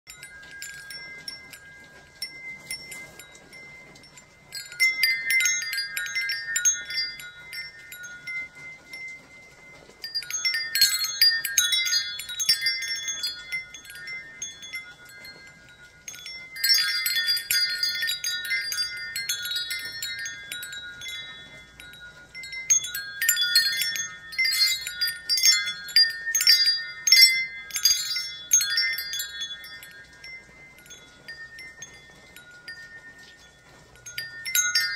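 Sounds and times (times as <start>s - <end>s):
wind chimes ringing: 0.1s - 34.9s.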